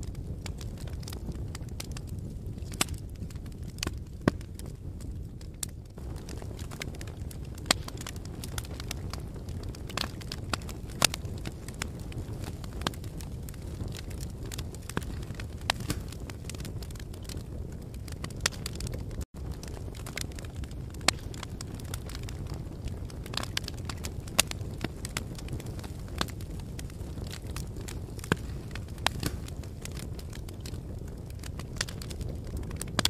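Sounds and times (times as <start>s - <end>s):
logs crackling and popping: 0.0s - 33.0s
low rumble of flames: 0.0s - 33.0s.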